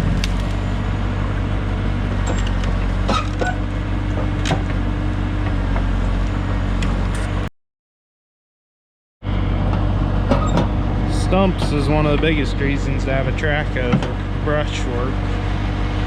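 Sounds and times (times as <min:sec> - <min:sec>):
diesel engine running under load: 0:00.0 - 0:07.5, 0:09.2 - 0:16.0.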